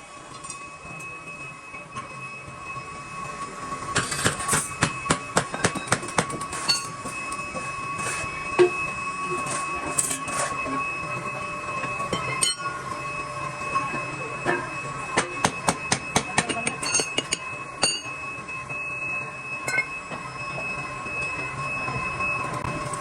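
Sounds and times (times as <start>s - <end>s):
high-pitched machine whine: 0.0s - 23.0s.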